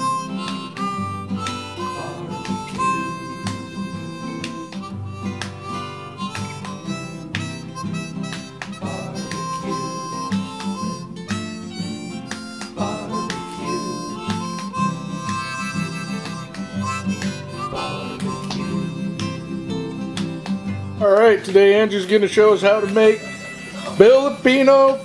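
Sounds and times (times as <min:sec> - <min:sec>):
instrumental background music: 0:00.0 - 0:25.0.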